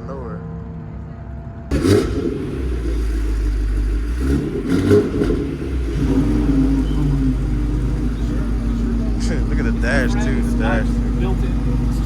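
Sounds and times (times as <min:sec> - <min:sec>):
car engine revving through exhaust: 0:01.7 - 0:12.0.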